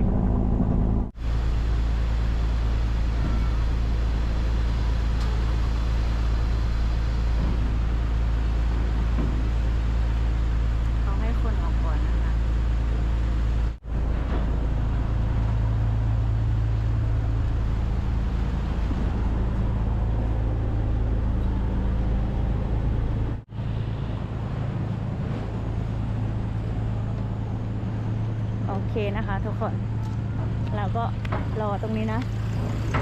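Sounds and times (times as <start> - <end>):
ship engine deep drone: 0.0 - 33.0.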